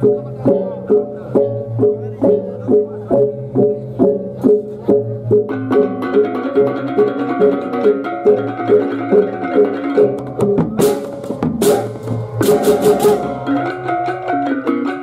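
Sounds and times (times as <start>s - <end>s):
drums and kettle gongs beating: 0.0s - 15.0s.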